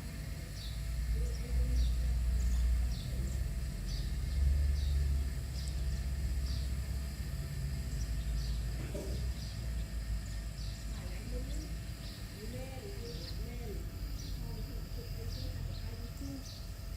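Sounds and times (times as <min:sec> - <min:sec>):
bird chirping: 0:00.4 - 0:06.8, 0:07.8 - 0:16.7.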